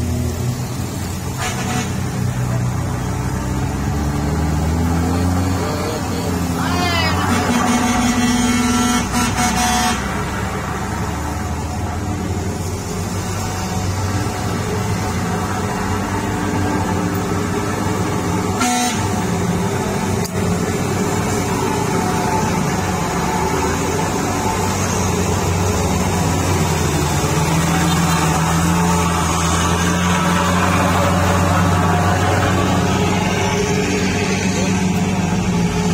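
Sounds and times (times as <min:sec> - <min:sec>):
truck diesel engine under load: 0:00.0 - 0:35.9.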